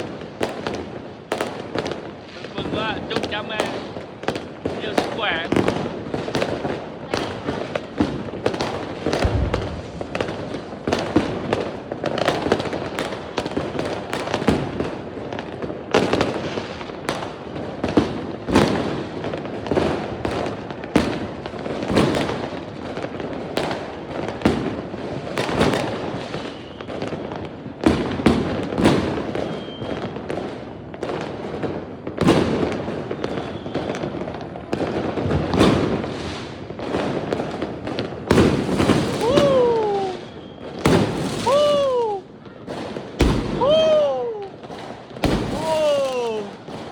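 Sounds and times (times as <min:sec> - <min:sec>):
fireworks bangs and crackles: 0:00.0 - 0:46.9
fireworks booms: 0:00.0 - 0:46.9.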